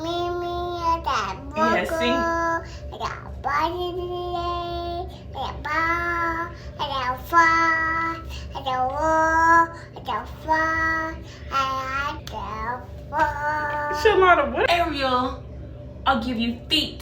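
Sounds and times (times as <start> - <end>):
toddler singing: 0.0 - 14.0
steady low hum: 0.0 - 17.0.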